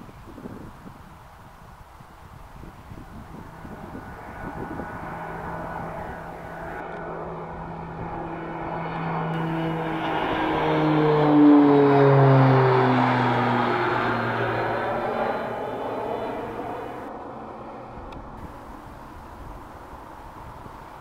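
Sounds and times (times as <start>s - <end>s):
propeller plane passing overhead: 0.0s - 21.0s.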